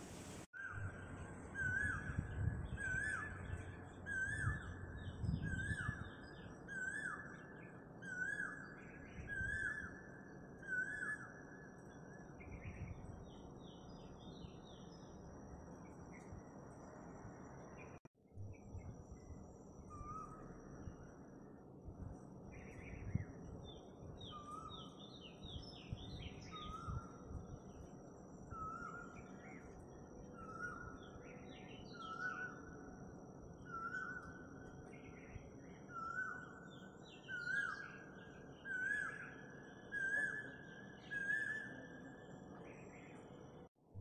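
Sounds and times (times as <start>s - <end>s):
low hum of outdoor noise: 0.0s - 44.0s.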